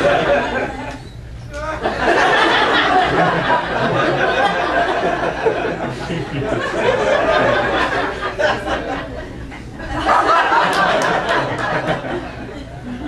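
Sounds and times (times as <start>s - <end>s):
audience laughing: 0.0s - 1.0s, 1.8s - 13.0s.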